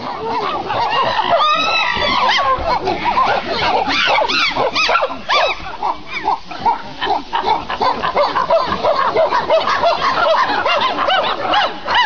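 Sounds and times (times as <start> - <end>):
chorus of animal calls: 0.0 - 12.0.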